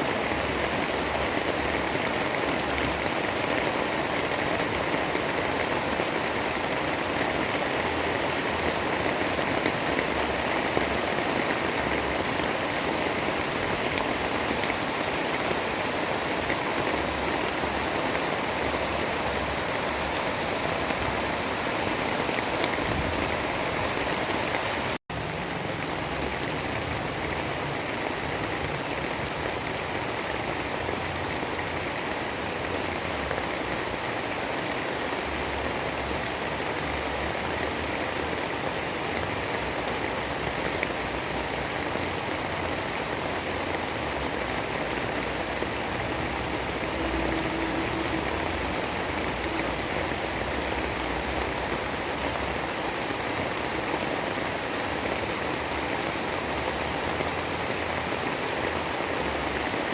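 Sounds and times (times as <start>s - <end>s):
storm rain rush: 0.0s - 59.9s.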